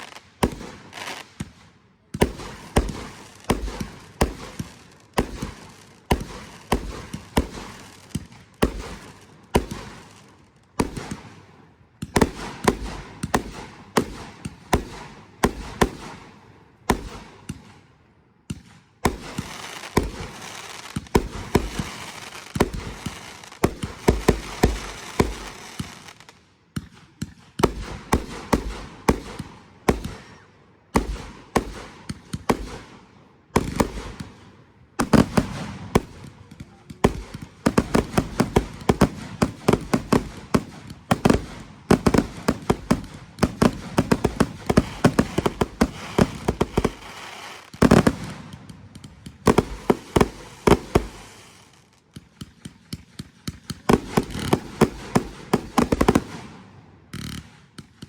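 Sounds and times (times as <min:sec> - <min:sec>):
fireworks bangs: 0:00.0 - 0:11.4, 0:12.0 - 0:16.2, 0:18.5 - 0:58.0
fireworks crackling: 0:00.0 - 0:11.4, 0:19.0 - 0:30.4, 0:33.6 - 0:58.0.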